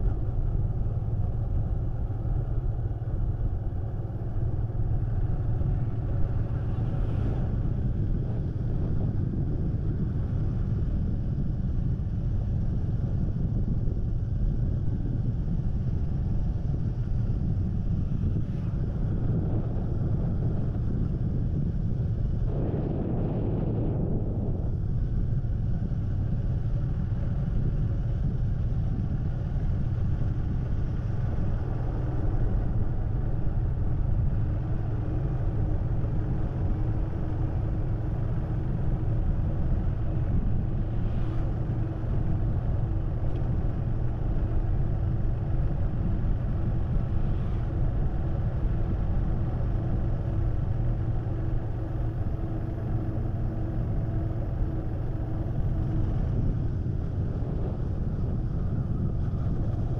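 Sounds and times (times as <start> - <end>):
engine hum: 0.0 - 59.9
road vehicle rumble: 0.0 - 59.9
wind noise on microphone: 0.0 - 59.9.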